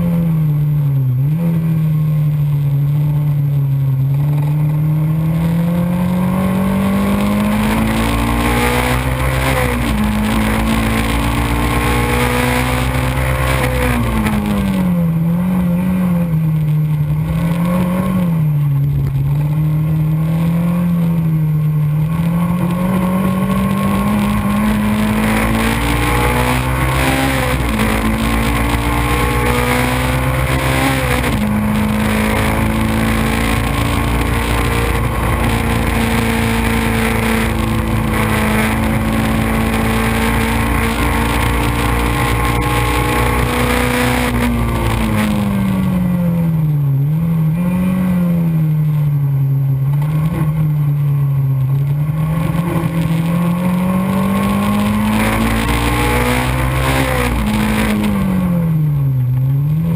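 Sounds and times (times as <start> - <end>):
racing car engine running hard: 0.0 - 59.9.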